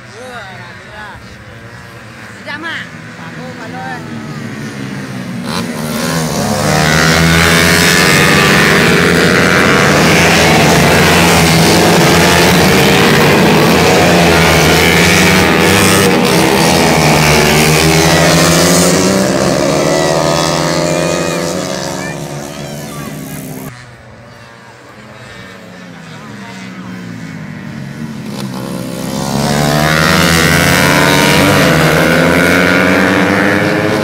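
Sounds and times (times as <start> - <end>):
racing motorcycles at full throttle: 0.0 - 34.0.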